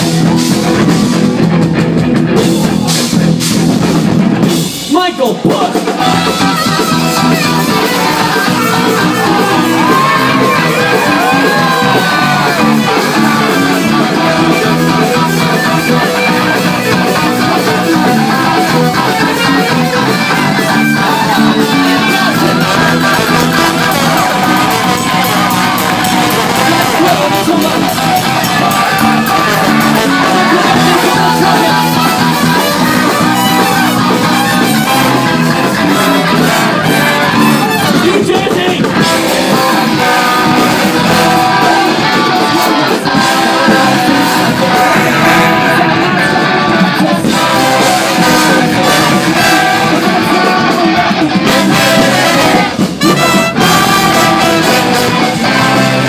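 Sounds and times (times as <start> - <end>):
electric guitars: 0.0 - 4.9, 5.8 - 56.0
bass guitar: 0.0 - 56.0
drum kit: 0.0 - 56.0
trumpet: 5.8 - 56.0.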